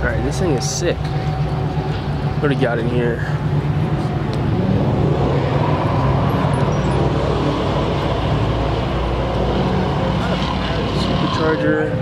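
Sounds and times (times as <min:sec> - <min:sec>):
engine idling deeply: 0:00.0 - 0:12.0.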